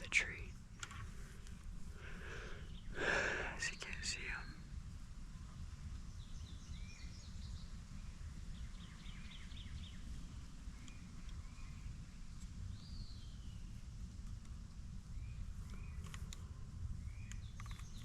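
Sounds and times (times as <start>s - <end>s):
birds chirping: 0.0s - 4.8s, 5.8s - 13.8s, 15.1s - 18.0s
steady low rumble: 0.0s - 17.6s.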